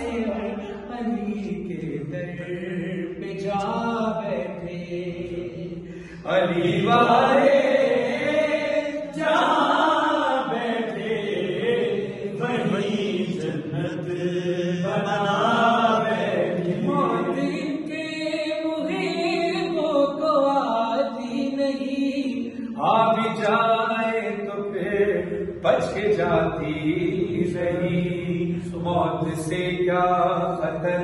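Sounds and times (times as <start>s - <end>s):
men chanting a lament: 0.0s - 31.0s.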